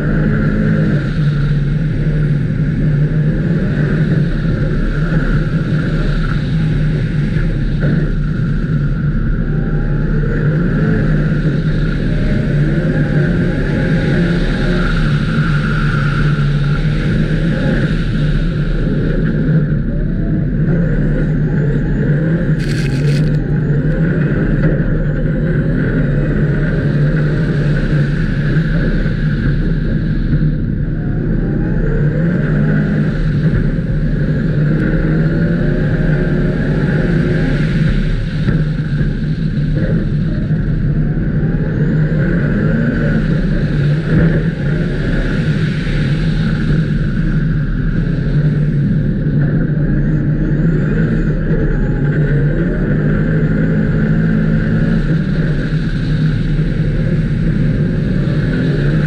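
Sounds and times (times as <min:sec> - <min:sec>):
racing car engine running hard: 0:00.0 - 0:59.0.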